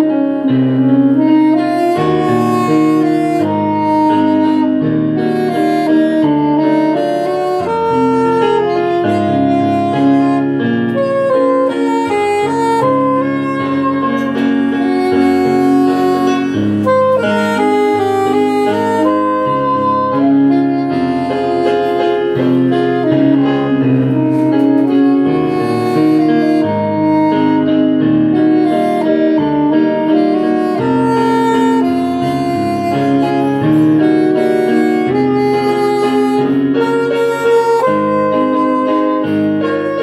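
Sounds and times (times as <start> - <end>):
electronic keyboard chords: 0.0 - 40.0
saxophone slow melody: 0.0 - 40.0.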